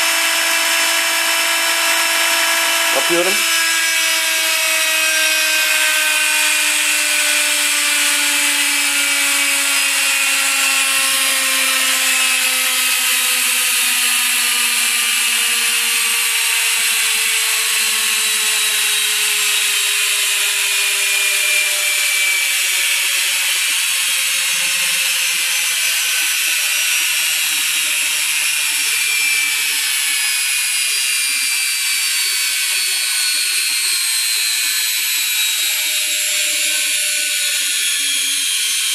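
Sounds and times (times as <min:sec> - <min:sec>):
washing machine motor spinning down: 0:00.0 - 0:38.9.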